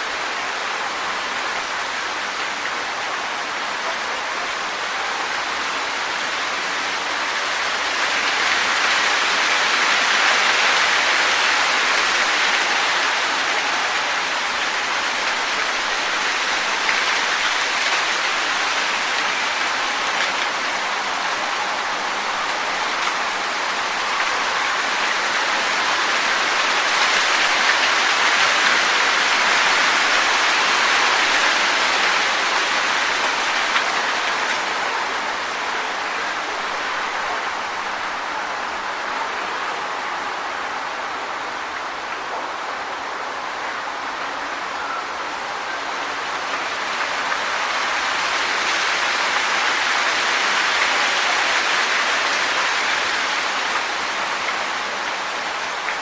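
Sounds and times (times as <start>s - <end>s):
wind rustling leaves: 0.0s - 56.0s.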